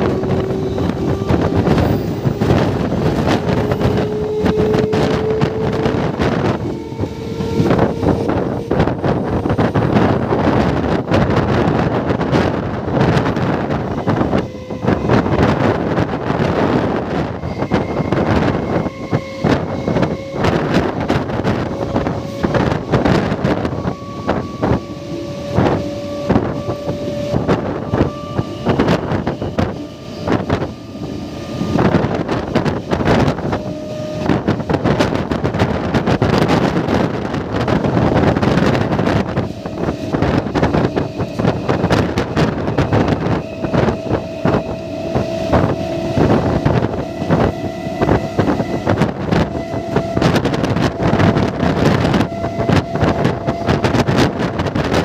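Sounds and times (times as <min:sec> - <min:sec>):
steady whine: 0:00.0 - 0:55.0
train wheels clattering on rail: 0:00.0 - 0:55.0
wind buffeting microphone: 0:00.0 - 0:55.0.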